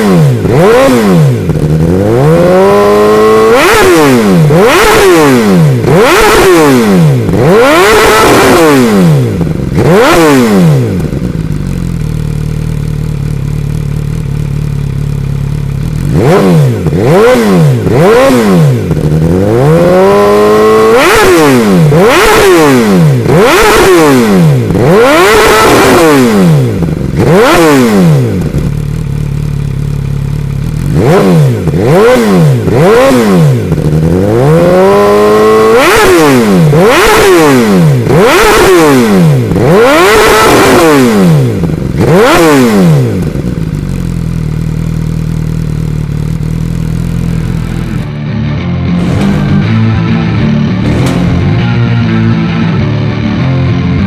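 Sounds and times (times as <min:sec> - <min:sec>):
motorcycle engine idling: 0:00.0 - 0:40.0, 0:40.9 - 0:48.2, 0:49.0 - 0:54.0
motorcycle engine revving: 0:00.0 - 0:54.0.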